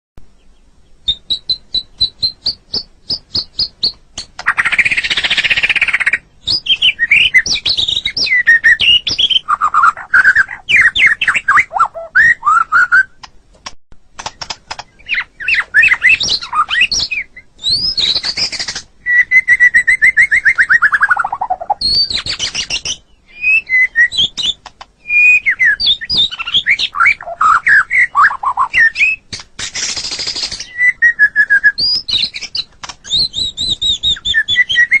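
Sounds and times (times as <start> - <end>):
bird singing varied song: 0.2 - 13.3, 14.2 - 35.0.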